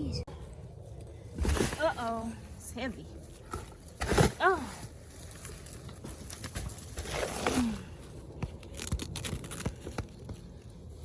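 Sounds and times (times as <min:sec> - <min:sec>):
soil rustling and pattering: 0:00.8 - 0:11.0.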